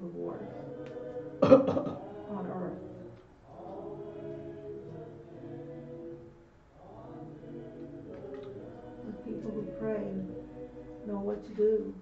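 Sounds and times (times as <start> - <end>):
choir-like voices holding chords: 0.0 - 12.0.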